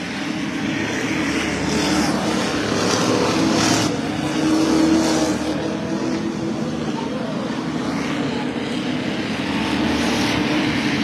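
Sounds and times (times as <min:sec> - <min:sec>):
stock car engines racing: 0:00.0 - 0:11.0.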